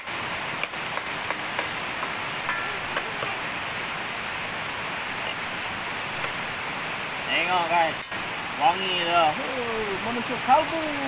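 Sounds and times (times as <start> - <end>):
food sizzling in hot oil: 0.0 - 10.2
river water rushing: 0.0 - 11.0.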